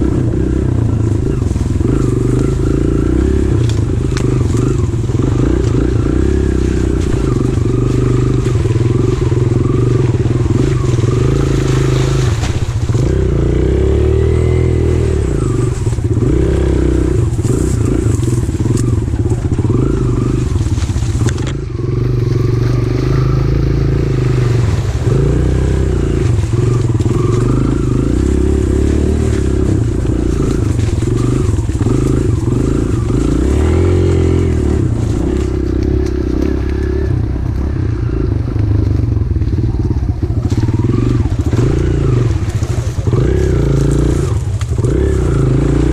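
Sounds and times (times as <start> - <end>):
pit bike engine revving: 0.0 - 45.9.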